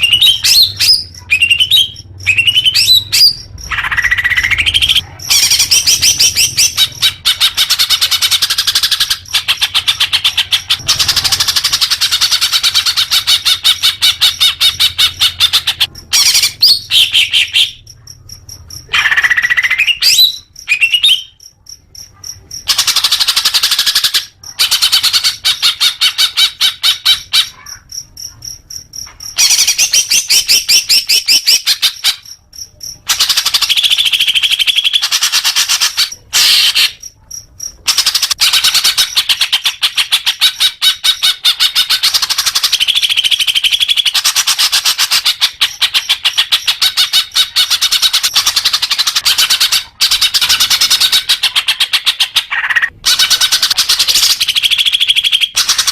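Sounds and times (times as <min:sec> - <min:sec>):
bird singing rapid chattering notes: 0:00.0 - 0:55.9.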